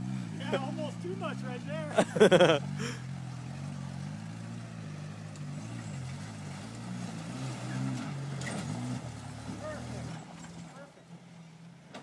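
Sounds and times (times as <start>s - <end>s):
engine working at low revs: 0.0s - 12.0s.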